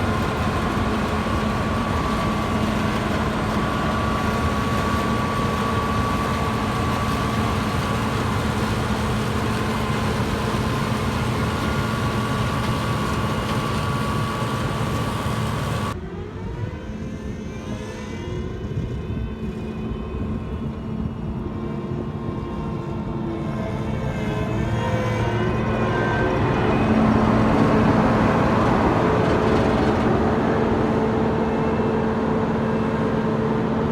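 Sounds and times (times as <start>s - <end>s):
combine harvester running: 0.0s - 16.0s, 21.2s - 33.9s
machine whine: 0.0s - 33.9s.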